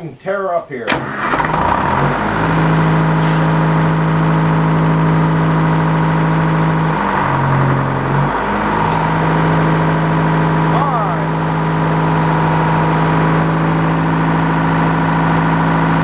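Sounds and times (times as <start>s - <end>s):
sawmill engine running: 0.9s - 16.0s.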